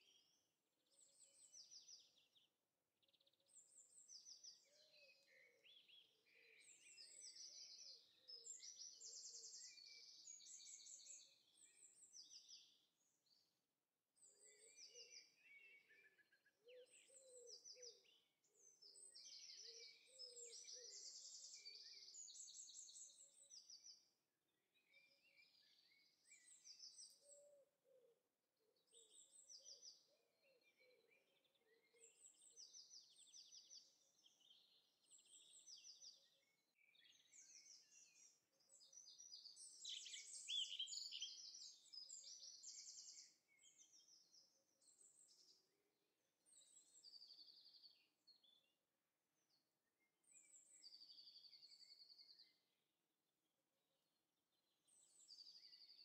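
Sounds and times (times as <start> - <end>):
small birds chirping and singing: 0.0 - 13.6, 14.2 - 28.1, 28.8 - 52.9, 54.5 - 56.0.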